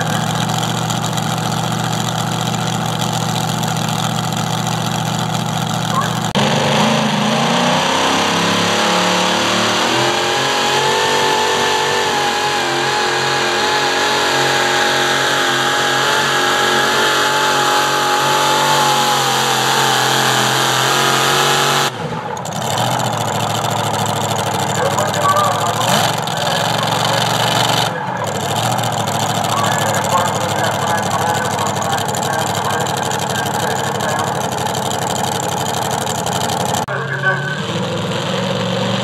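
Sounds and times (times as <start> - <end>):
engine at full throttle: 0.0 - 39.0.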